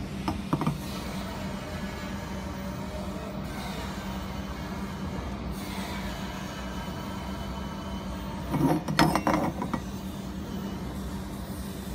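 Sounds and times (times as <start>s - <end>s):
machinery hum: 0.0s - 11.9s.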